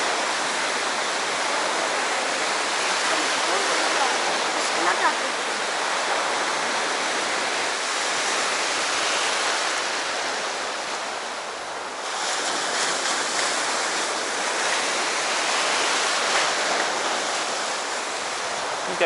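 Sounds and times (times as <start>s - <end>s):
sea surf washing onto shore: 0.0s - 19.0s.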